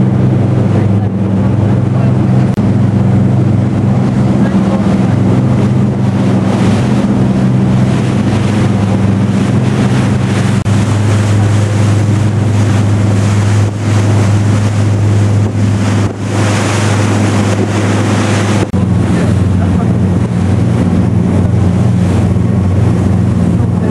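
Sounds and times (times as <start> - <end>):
ferry engines humming: 0.0 - 23.9
rushing water: 0.0 - 23.9
wind buffeting microphone: 0.0 - 23.9.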